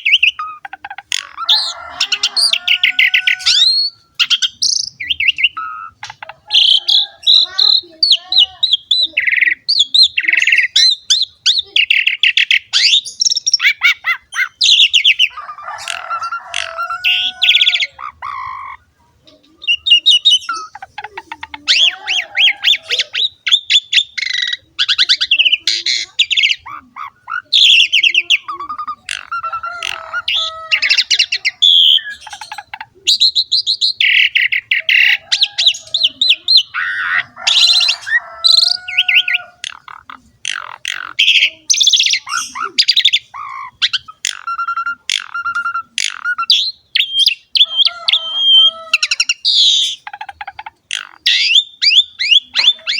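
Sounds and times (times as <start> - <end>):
starling singing: 0.0 - 52.9.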